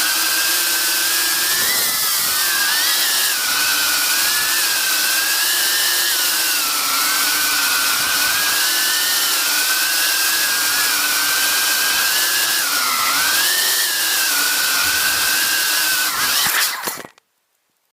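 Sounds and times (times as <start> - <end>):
drone motors and propellers whining: 0.0 - 17.1.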